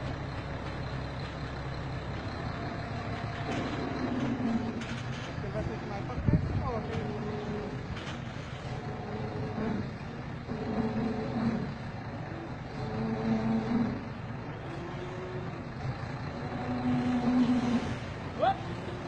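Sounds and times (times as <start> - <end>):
truck diesel engine revving: 0.0 - 19.0.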